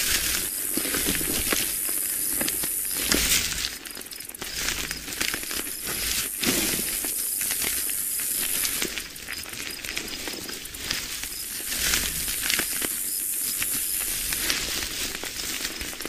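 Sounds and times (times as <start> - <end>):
beetle clicks and crackling: 0.0 - 16.0
steady hiss: 0.0 - 16.0.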